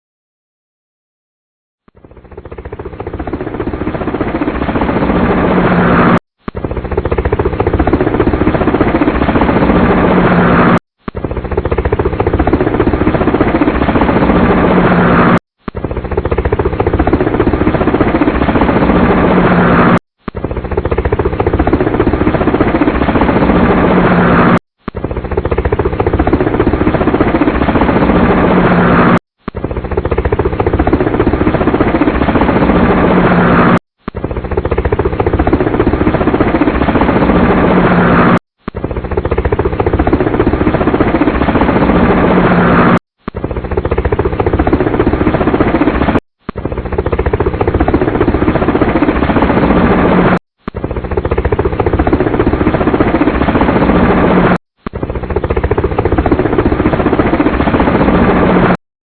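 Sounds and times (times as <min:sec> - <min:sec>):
helicopter engine and rotor drone: 0:01.8 - 0:58.8.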